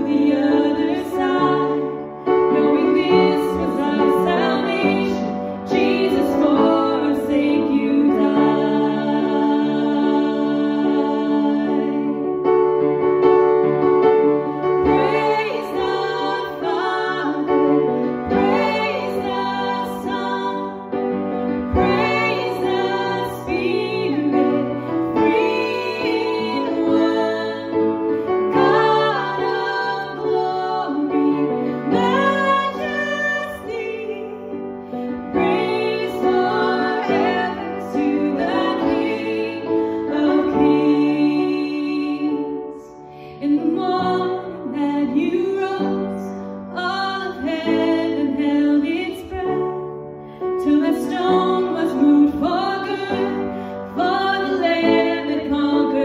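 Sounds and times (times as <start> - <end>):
women singing worship song: 0.0 - 12.4, 14.6 - 56.0
piano accompaniment: 0.0 - 56.0.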